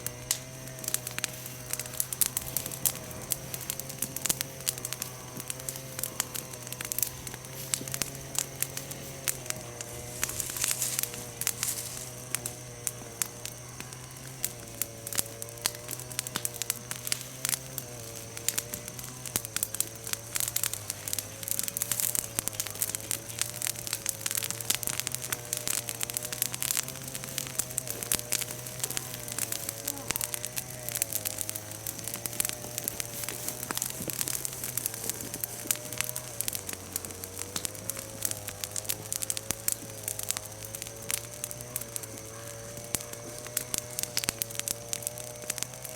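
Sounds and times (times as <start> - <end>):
bonfire crackling and popping: 0.0 - 45.9.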